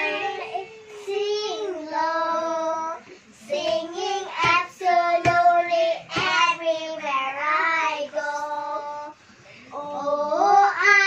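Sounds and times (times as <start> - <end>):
child singing: 0.0 - 11.0.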